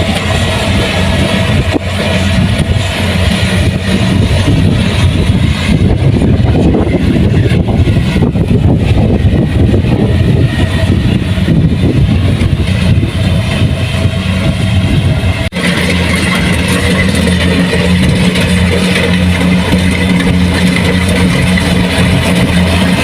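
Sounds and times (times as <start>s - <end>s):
combine harvester diesel engine: 0.0s - 23.0s.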